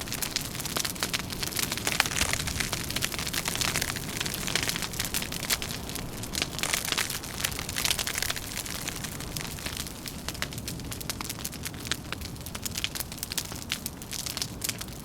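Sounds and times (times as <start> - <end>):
low rumble of wind: 0.0 - 15.0
wood fire crackling: 0.0 - 15.0.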